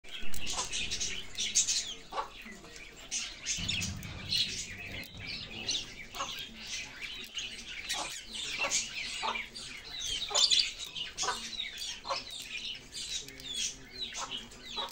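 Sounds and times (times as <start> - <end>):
budgerigars chattering: 0.1 - 14.9.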